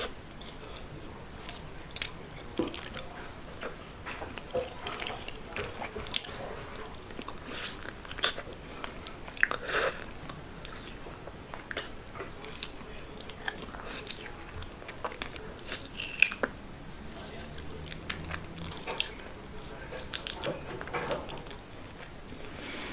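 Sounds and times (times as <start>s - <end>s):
crunchy chewing: 0.0s - 22.9s.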